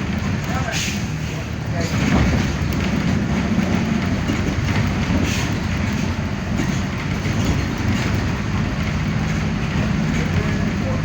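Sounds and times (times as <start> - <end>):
bus diesel engine running: 0.0 - 11.0
road noise: 0.0 - 11.0.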